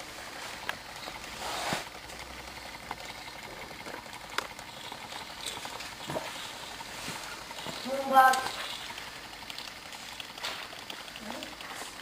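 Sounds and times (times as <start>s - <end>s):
small engine hissing: 0.0s - 12.0s.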